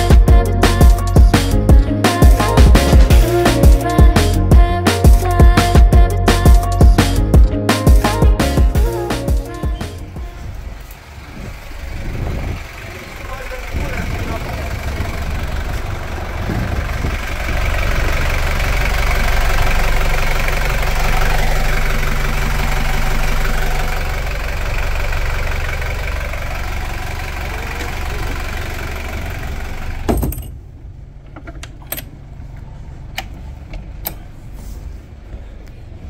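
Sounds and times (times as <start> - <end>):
marine diesel engine idling: 0.0 - 31.3
engine stopping thump: 0.1 - 32.1.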